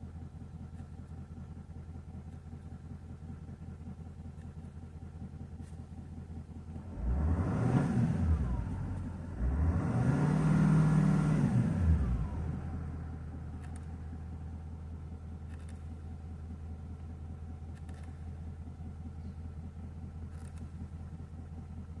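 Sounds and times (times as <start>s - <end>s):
diesel engine revving and idling: 0.0s - 22.0s.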